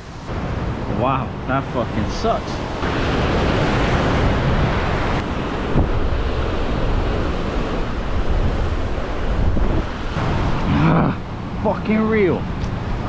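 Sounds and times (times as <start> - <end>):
surf breaking over rocks: 0.0 - 12.3
wind buffeting microphone: 0.0 - 13.0.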